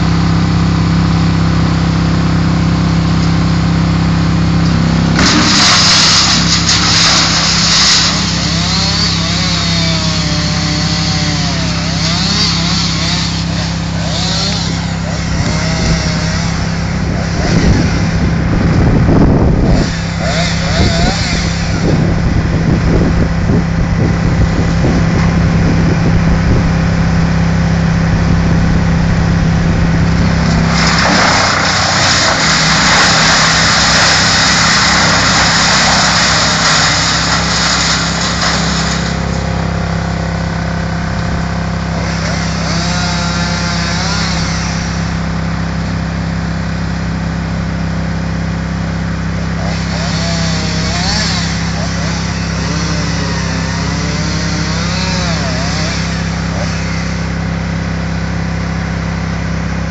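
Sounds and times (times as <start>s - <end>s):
grinding and shredding: 0.0s - 59.9s
wood chipper engine running: 0.0s - 59.9s.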